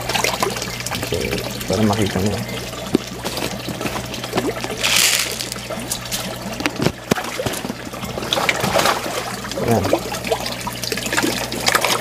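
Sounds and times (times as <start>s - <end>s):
water pouring into fish tank: 0.0s - 12.0s.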